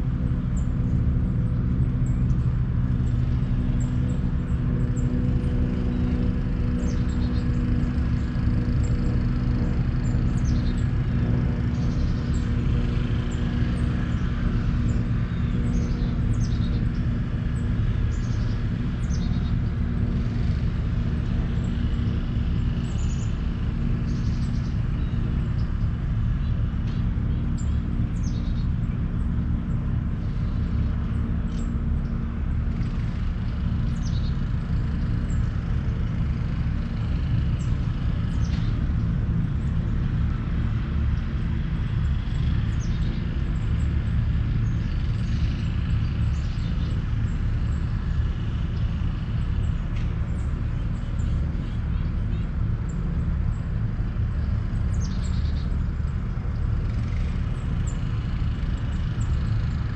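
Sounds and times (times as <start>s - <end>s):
constant hum: 0.0s - 59.9s
birds chirping: 0.2s - 59.9s.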